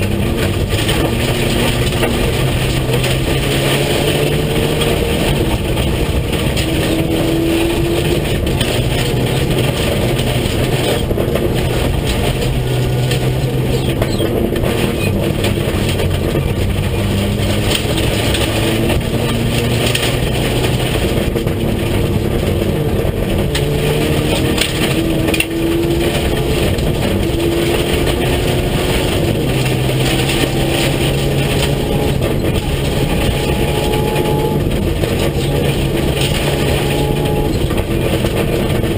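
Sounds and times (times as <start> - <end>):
car engine revving through gears: 0.0 - 38.9
tyres on gravel: 0.0 - 38.9.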